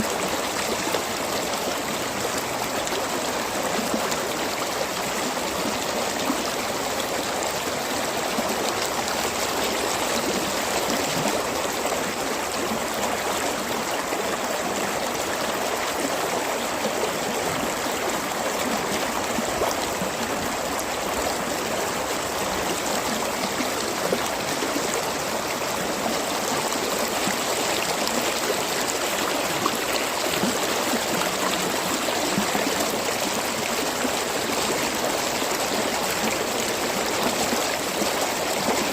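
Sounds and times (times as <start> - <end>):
stream water gurgling: 0.0 - 38.9.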